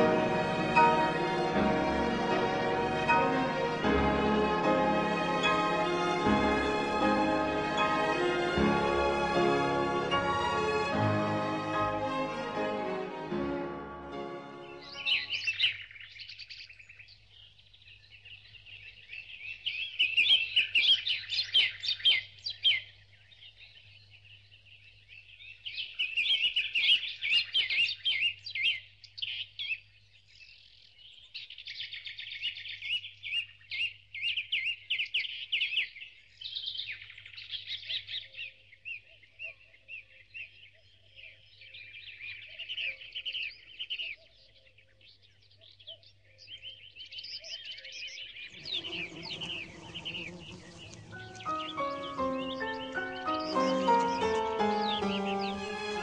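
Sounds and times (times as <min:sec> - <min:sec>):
birds chirping and twittering: 0:00.0 - 0:09.4, 0:14.1 - 0:56.0.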